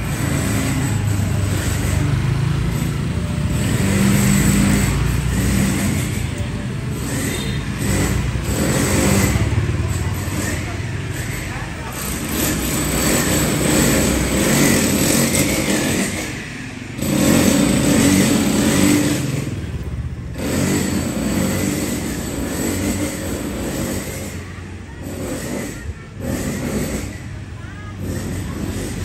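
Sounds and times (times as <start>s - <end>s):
motor scooters passing by: 0.0s - 29.0s.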